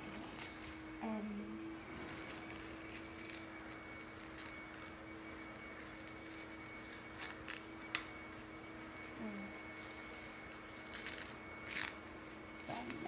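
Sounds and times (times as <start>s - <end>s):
steady low hum: 0.0s - 13.0s
light clicks and crinkles: 1.9s - 13.0s.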